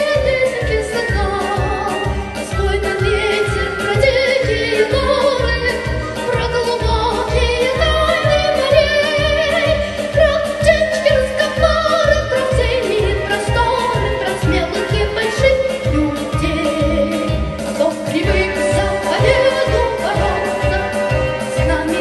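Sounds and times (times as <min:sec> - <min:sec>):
backing track with steady beat: 0:00.0 - 0:22.0
girl singing with vibrato: 0:00.0 - 0:22.0.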